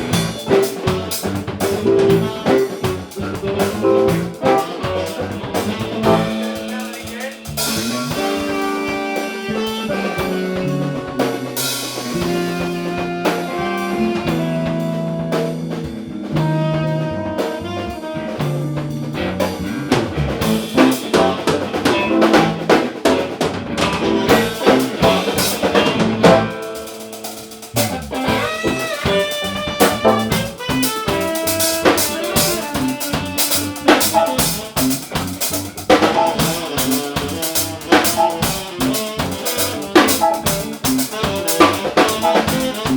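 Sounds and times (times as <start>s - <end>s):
drum kit playing: 0.0s - 42.9s
held pitched instrument notes: 0.0s - 42.9s.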